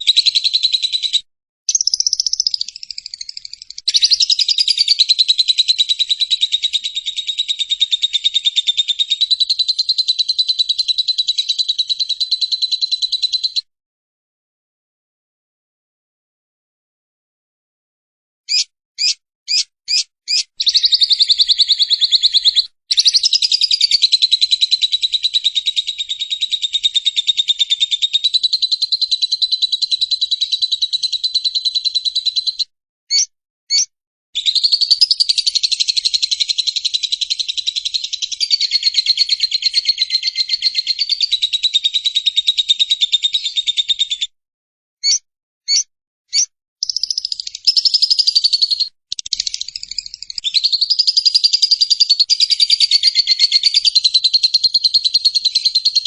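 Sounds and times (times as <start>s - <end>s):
lovebird chattering trill: 0.0s - 13.6s, 18.5s - 44.2s, 45.0s - 56.0s
lovebird chirps: 0.0s - 13.7s, 18.5s - 44.3s, 45.0s - 56.0s.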